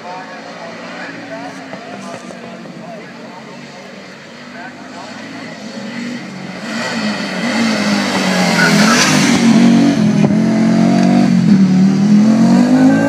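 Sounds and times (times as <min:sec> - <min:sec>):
rally car engine accelerating: 0:00.4 - 0:13.0.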